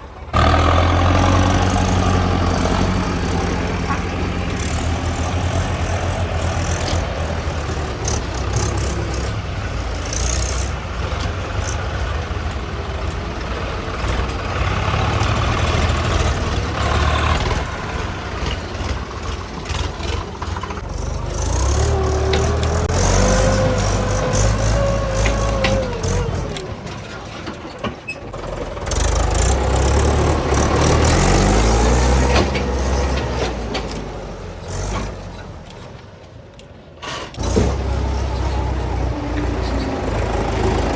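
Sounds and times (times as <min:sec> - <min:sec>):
tractor diesel engines running: 0:00.0 - 0:40.9
knocks and rattles: 0:00.9 - 0:36.0.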